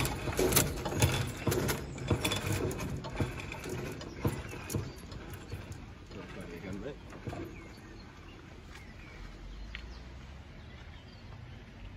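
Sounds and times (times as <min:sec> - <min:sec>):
low motor hum: 0:00.0 - 0:11.9.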